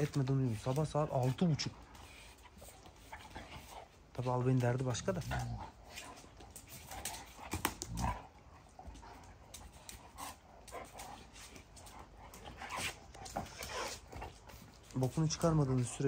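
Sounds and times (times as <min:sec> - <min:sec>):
dogs play-fighting: 0:00.0 - 0:16.0.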